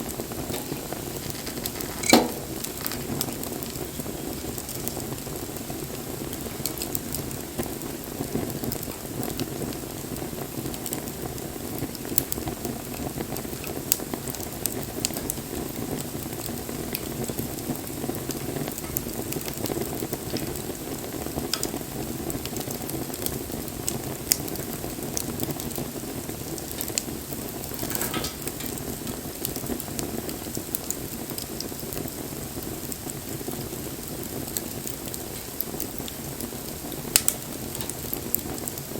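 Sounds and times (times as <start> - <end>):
wood crackling and popping: 0.0 - 38.9
wood fire burning: 0.0 - 38.9.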